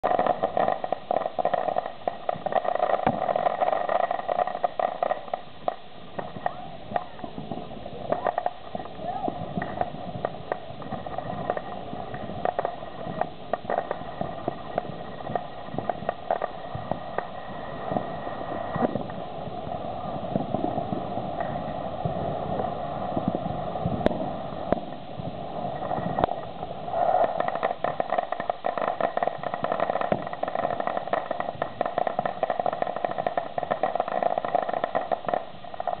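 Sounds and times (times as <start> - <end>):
fountain firework hissing: 0.0 - 36.0
sharp crackling pops: 0.0 - 36.0.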